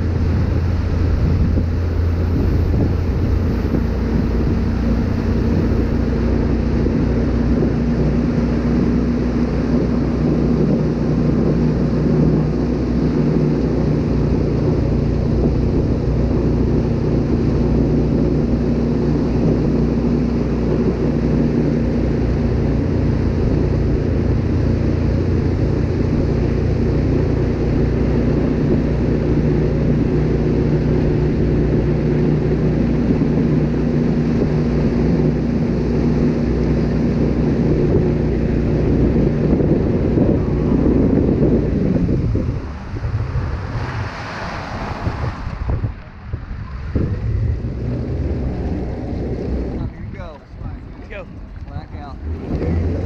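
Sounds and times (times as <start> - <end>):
boat engine droning: 0.0 - 53.0
wind on microphone: 0.0 - 53.0.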